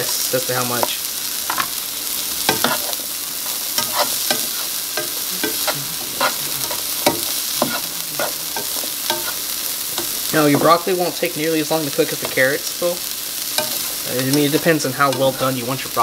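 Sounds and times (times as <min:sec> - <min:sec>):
vegetables sizzling in pan: 0:00.0 - 0:16.0.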